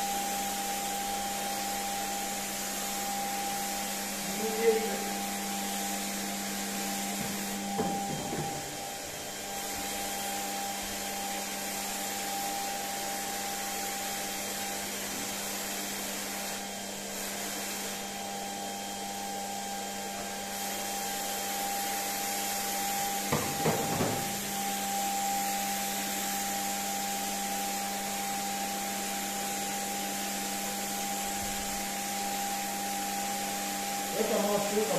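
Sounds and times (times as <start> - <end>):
paint spray machine running: 0.1 - 34.9.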